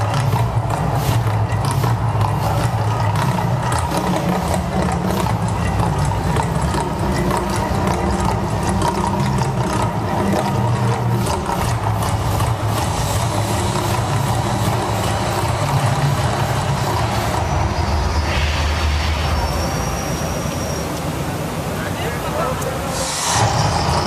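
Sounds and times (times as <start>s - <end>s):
deep steady rumble: 0.0s - 24.0s
water jets rushing: 0.0s - 24.0s.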